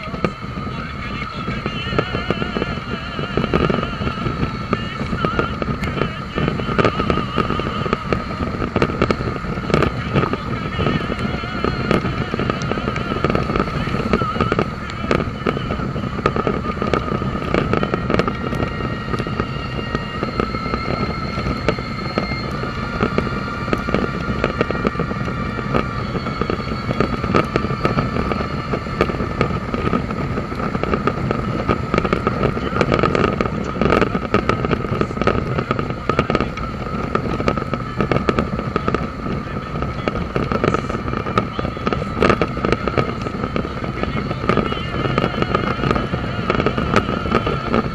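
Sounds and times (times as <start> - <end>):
steady high whine: 0.0 - 47.9
wind and motorcycle engine rumble: 0.0 - 47.9.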